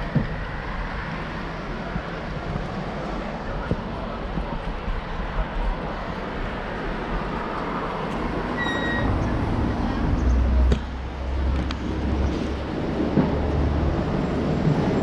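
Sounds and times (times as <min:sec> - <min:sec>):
heavy vehicle rumble: 0:00.0 - 0:15.0
street traffic: 0:00.0 - 0:15.0.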